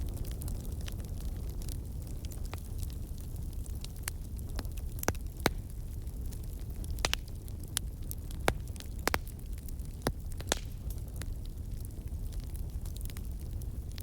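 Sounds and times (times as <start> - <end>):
burning wood crackling: 0.0 - 14.0
low rumble of flames: 0.0 - 14.0.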